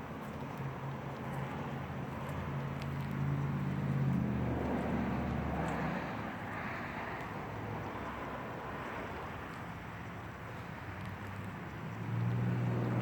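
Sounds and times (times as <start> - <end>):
vehicle engine passing by: 1.2 - 13.0.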